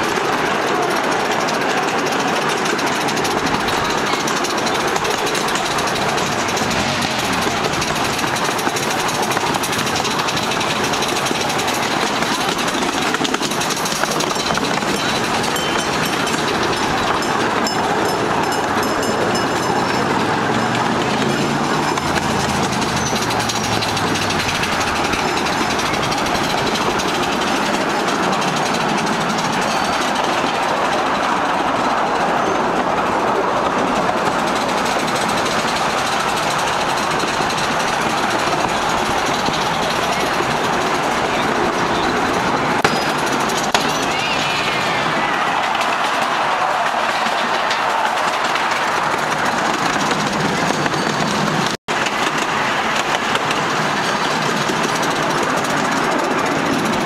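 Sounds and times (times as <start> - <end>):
train cars rattling on track: 0.0 - 57.0.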